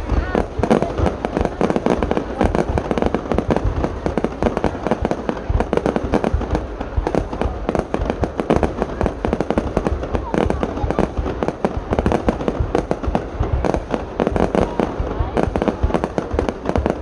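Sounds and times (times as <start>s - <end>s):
firework bangs: 0.0s - 17.0s.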